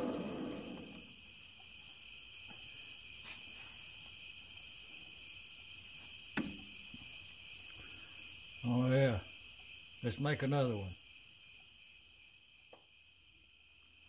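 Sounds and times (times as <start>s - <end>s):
high-pitched insect trill: 0.1s - 14.0s.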